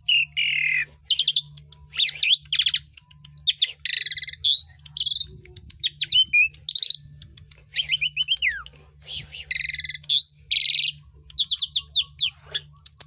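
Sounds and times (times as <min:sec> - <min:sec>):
starling singing: 0:00.0 - 0:12.7
faint low hum: 0:00.0 - 0:13.0.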